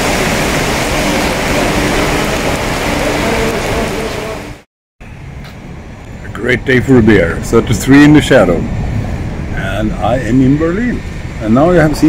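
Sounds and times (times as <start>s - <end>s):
heavy rain pouring: 0.0s - 4.7s, 6.3s - 12.0s.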